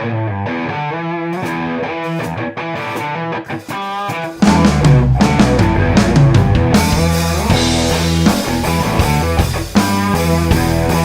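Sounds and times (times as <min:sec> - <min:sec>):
electric guitar: 0:00.0 - 0:11.0
rock band playing: 0:00.0 - 0:11.0.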